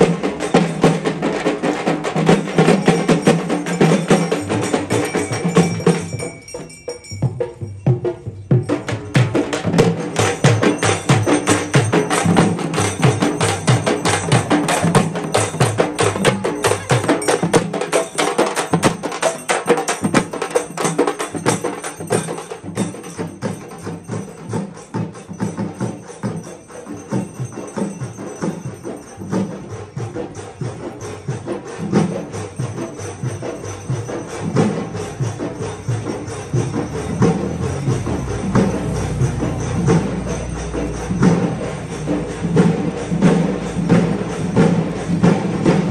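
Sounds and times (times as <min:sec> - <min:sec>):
music with dense percussion: 0:00.0 - 0:45.9.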